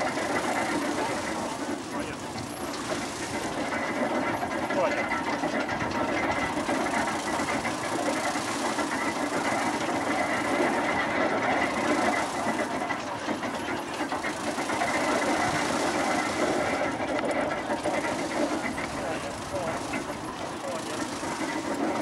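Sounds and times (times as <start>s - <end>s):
threshing machine rattling and whirring: 0.0s - 22.0s.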